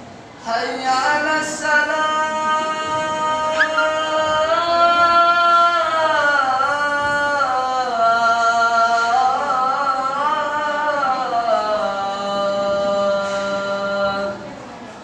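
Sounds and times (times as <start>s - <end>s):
man chanting call to prayer: 0.4s - 14.5s.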